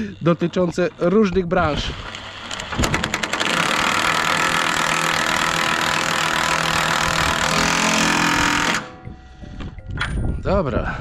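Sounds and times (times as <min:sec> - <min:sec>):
impact wrench running: 0:00.0 - 0:09.0.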